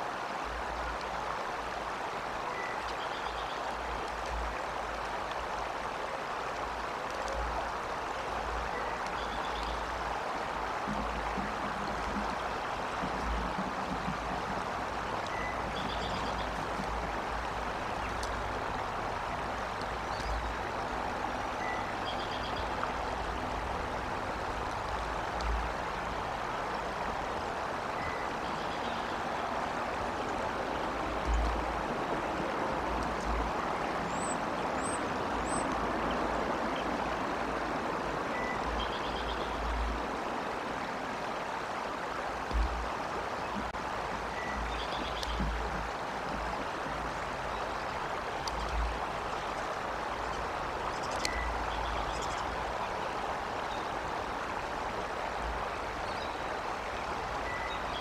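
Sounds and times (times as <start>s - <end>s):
rushing outdoor background noise: 0.0s - 58.0s.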